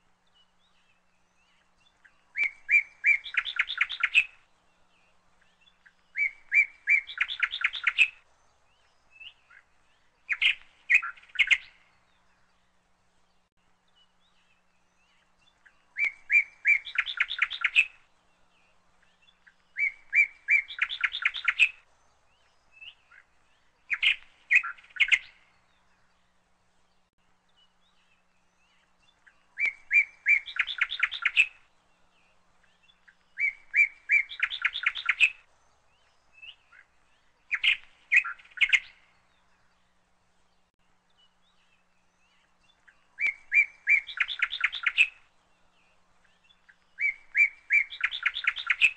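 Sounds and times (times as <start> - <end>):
songbird singing trills: 0.0 - 48.9.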